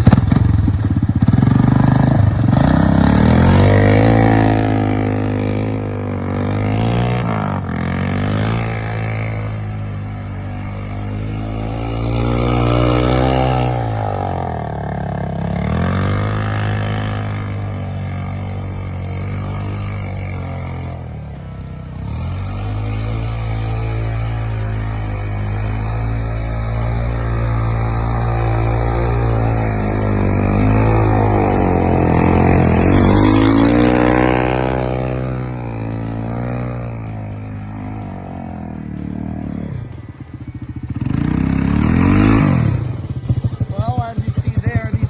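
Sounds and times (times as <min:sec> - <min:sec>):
three-wheeler engine revving: 0:00.0 - 0:45.0.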